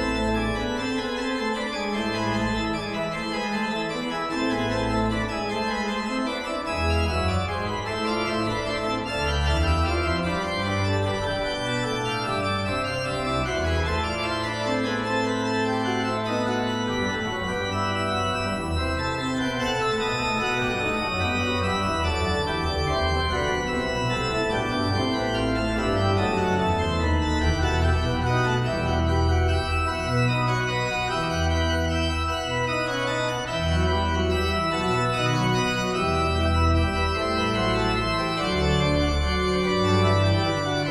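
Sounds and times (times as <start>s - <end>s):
organ bass line: 0.0s - 40.9s
organ chords: 0.0s - 40.9s.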